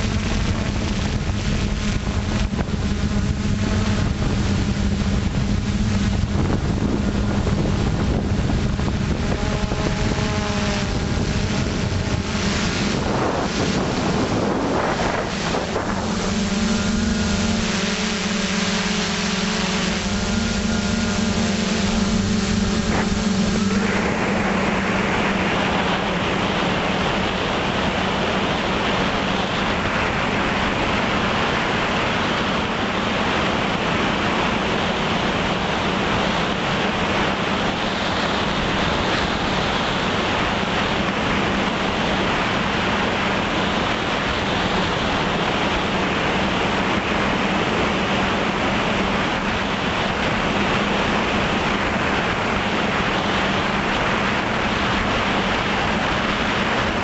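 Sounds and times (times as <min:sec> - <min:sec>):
drone motors humming: 0:00.0 - 0:57.0
wind and prop wash rushing: 0:00.0 - 0:57.0.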